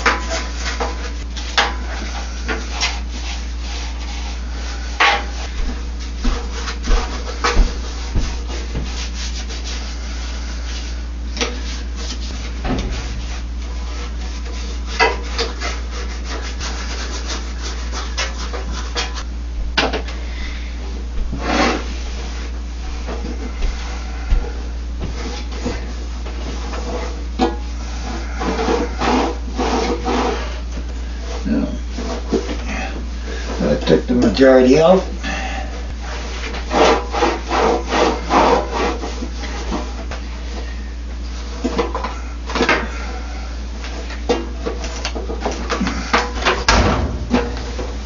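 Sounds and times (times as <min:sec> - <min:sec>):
brush scrubbing: 0:00.0 - 0:19.3, 0:21.4 - 0:48.0
steady low hum: 0:00.0 - 0:48.0.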